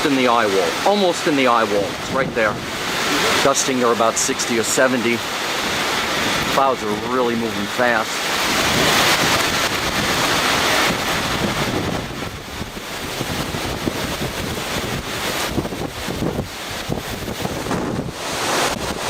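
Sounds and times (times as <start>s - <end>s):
strong wind blasting microphone: 0.0s - 19.0s.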